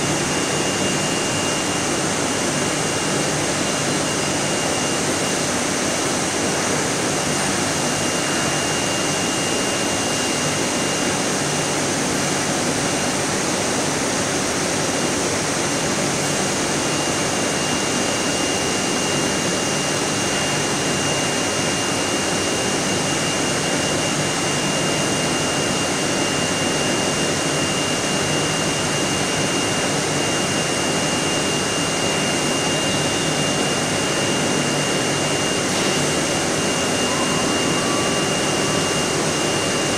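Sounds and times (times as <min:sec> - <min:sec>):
high steady whine: 0:00.0 - 0:39.9.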